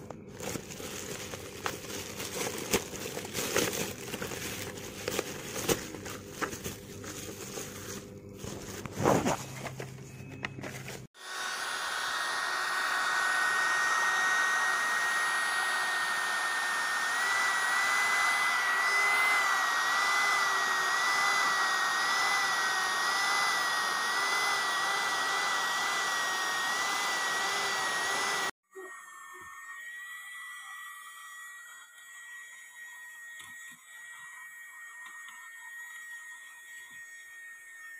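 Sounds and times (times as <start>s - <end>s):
mini vacuum cleaner whining: 0.0s - 37.9s.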